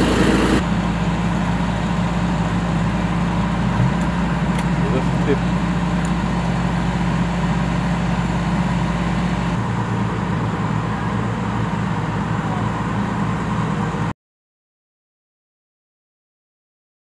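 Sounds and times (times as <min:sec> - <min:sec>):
diesel railcar engine idling: 0:00.0 - 0:14.1.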